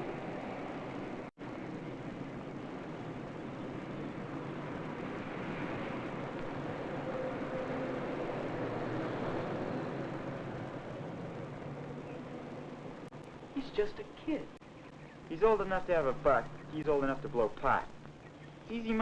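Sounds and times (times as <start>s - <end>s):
distant engine rumble: 0.0s - 19.0s.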